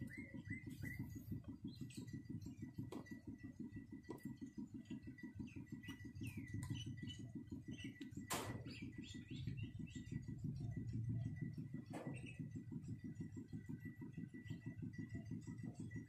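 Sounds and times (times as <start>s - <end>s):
low rapid pulsing hum: 0.0s - 16.0s.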